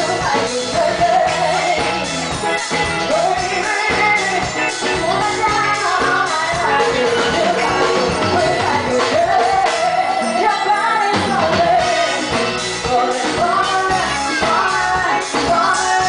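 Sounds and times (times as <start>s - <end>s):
electric guitar: 0.0s - 16.0s
live band playing: 0.0s - 16.0s
woman singing into microphone: 0.0s - 16.0s.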